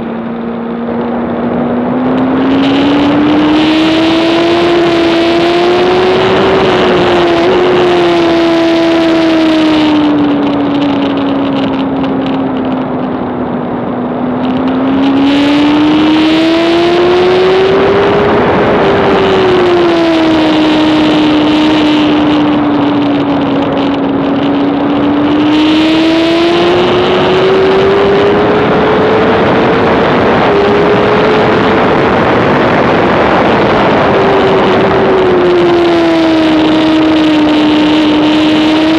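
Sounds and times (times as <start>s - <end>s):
motorcycle engine at high revs: 0.0s - 38.9s
wind rush: 0.0s - 38.9s.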